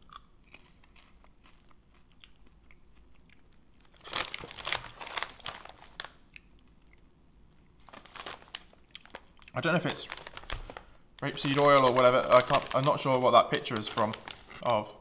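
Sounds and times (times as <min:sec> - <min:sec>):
popcorn crunching: 0:00.0 - 0:07.0, 0:07.6 - 0:14.8.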